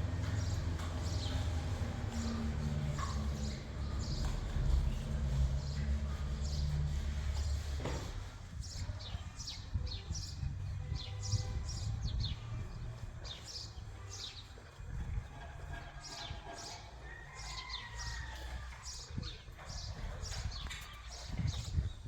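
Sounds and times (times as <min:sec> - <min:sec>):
small birds chirping: 0:00.2 - 0:15.2, 0:15.8 - 0:22.0.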